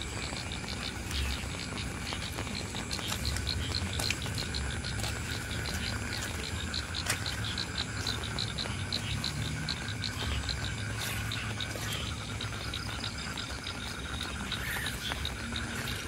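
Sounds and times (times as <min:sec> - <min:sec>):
drip ticks: 0:00.0 - 0:16.0
steady rain falling: 0:00.0 - 0:16.0.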